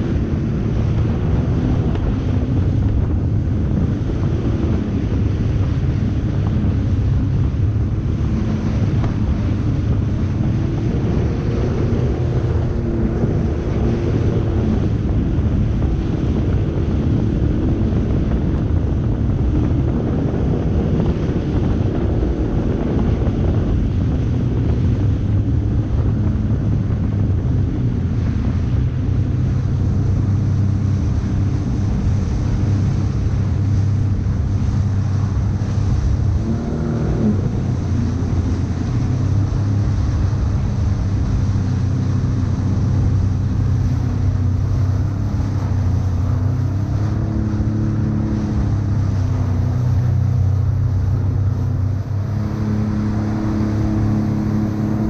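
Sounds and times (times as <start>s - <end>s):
water rushing under hull: 0.0s - 55.0s
watercraft engine running: 0.0s - 55.0s
wind buffeting microphone: 0.0s - 55.0s.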